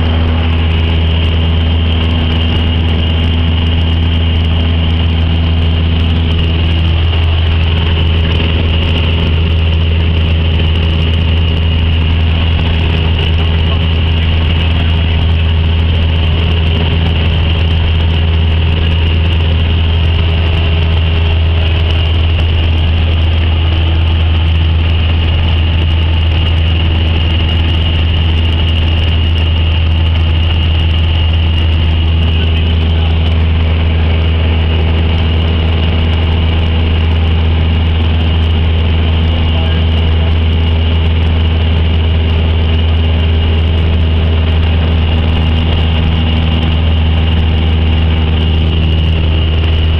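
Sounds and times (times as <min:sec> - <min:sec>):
airplane engine drone in cabin: 0:00.0 - 0:49.9.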